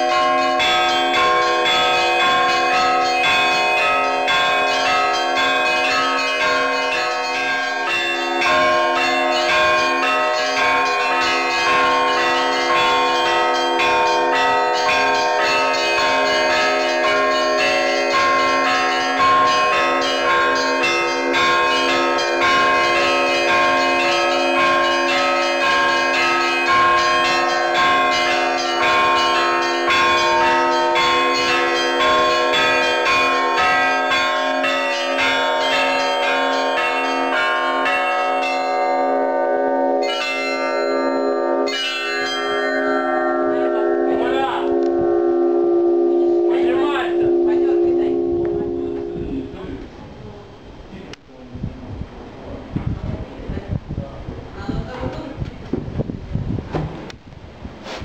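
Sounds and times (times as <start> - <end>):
church bells pealing: 0.0 - 50.7.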